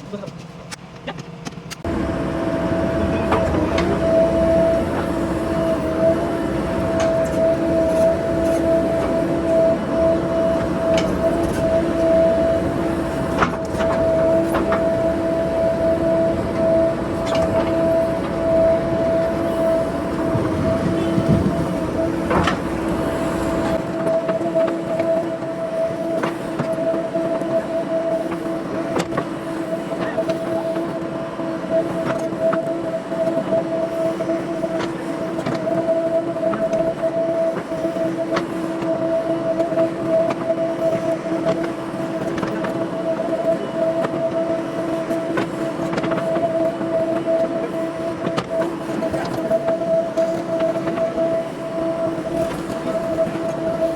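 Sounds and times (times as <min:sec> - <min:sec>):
diesel engine under load: 0:00.0 - 0:53.9
hydraulic whine: 0:01.6 - 0:53.9.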